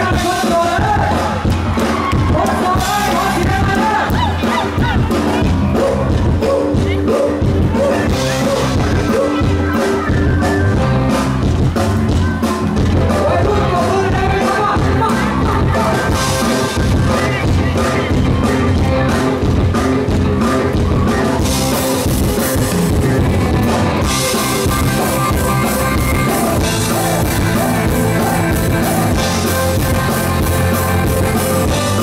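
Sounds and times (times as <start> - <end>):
live pop-rock band playing: 0.0 - 32.0
steady drum beat: 0.0 - 32.0
person singing: 2.1 - 11.1, 13.0 - 22.6, 24.2 - 32.0.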